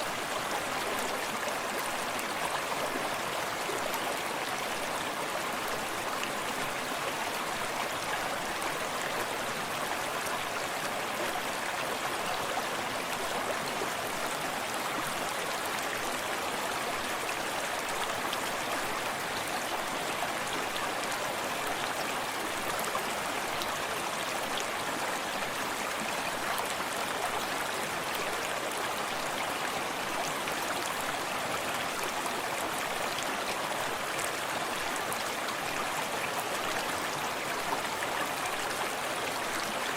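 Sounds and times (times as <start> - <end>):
distant small waterfall: 0.0 - 39.9.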